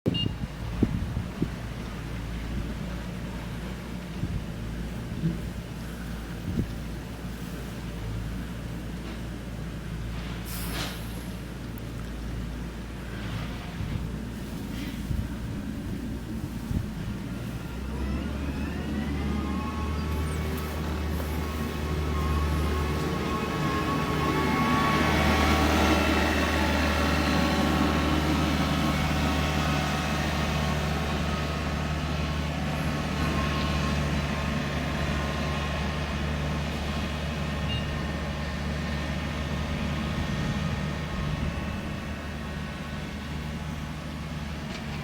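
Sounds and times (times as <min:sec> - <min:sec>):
excavator diesel engine droning: 0:00.1 - 0:45.0.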